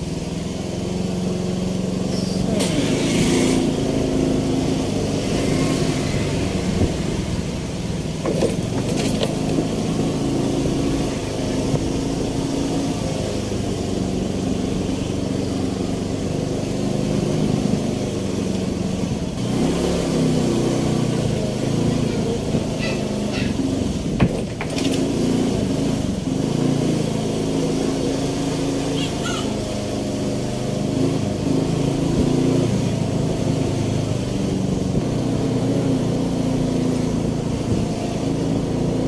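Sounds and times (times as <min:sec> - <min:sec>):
small motorbike engine running: 0:00.0 - 0:39.0.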